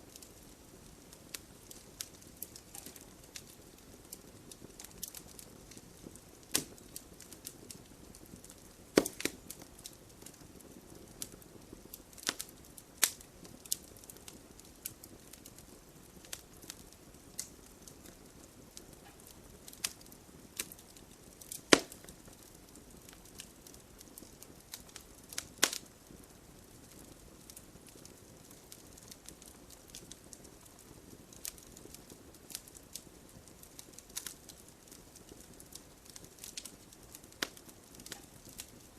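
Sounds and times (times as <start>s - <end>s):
logs crackling and popping: 0.0s - 38.9s
low hiss of flame: 0.0s - 38.9s.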